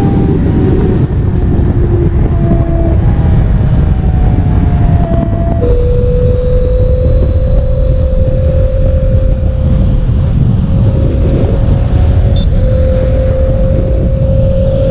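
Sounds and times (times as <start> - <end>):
motorcycle engine running steadily: 0.0 - 14.9
wind noise on microphone: 0.0 - 14.9.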